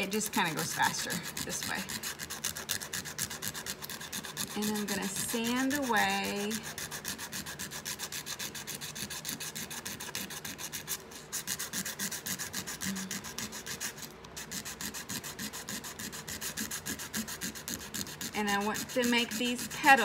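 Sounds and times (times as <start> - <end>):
sandpaper rubbing on tin: 0.0 - 20.0.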